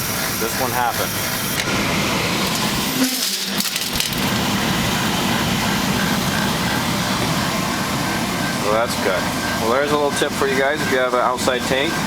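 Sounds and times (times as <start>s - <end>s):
oil burner fan and flame rush: 0.0s - 12.0s.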